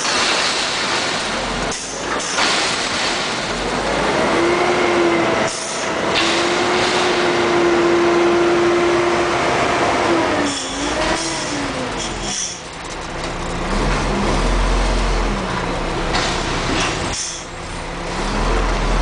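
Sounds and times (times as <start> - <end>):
garbage truck diesel engine: 0.0 - 19.0.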